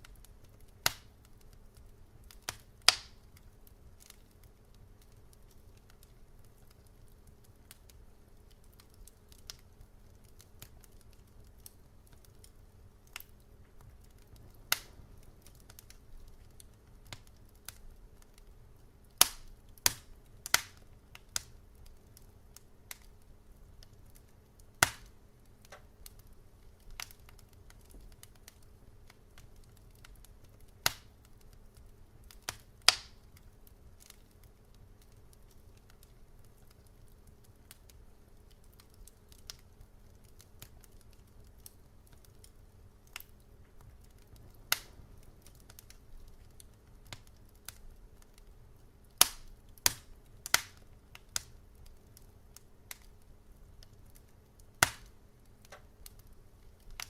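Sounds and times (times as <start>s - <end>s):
faint low hum: 0.0s - 57.0s
wood fire crackling: 0.0s - 57.0s.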